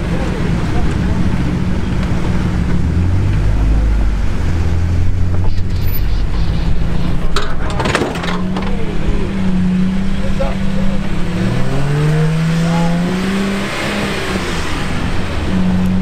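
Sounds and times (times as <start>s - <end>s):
off-road engines running: 0.0s - 16.0s.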